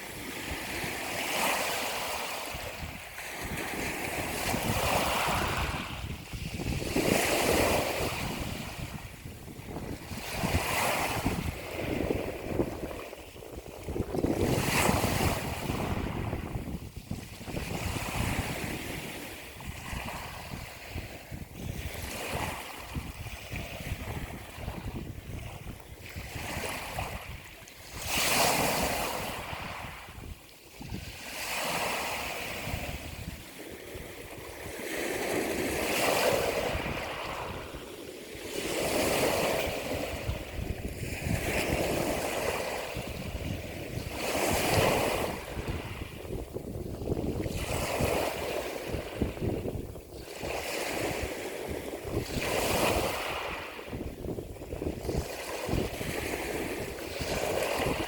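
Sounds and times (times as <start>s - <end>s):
ocean waves washing on shore: 0.0s - 58.0s
wind rumbling on microphone: 0.0s - 58.0s.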